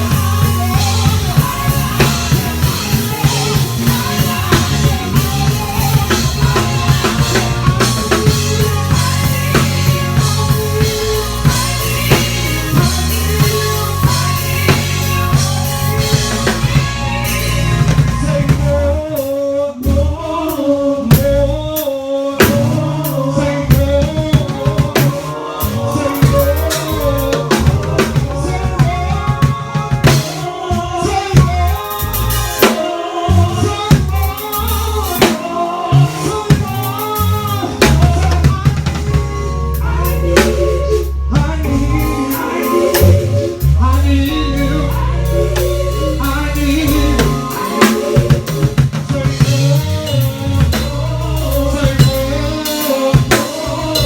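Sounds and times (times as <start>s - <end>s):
bass guitar low notes: 0.0s - 19.2s, 19.8s - 20.4s, 21.1s - 21.8s, 22.4s - 32.6s, 33.3s - 35.3s, 35.9s - 54.0s
drum kit: 0.0s - 54.0s
keyboard: 0.0s - 54.0s.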